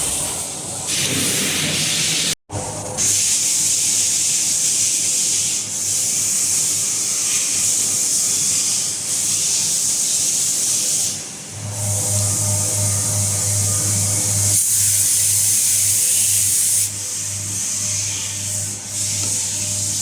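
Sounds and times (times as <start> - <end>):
machine cutting hiss: 3.0 - 20.0.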